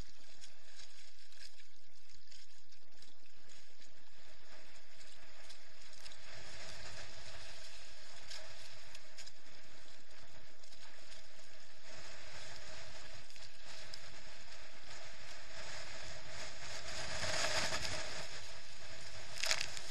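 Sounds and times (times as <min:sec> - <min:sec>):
choppy water rushing: 0:00.0 - 0:19.9
gusting wind: 0:00.0 - 0:19.9
steady hum: 0:00.0 - 0:19.9
waves slapping hull: 0:00.0 - 0:19.9.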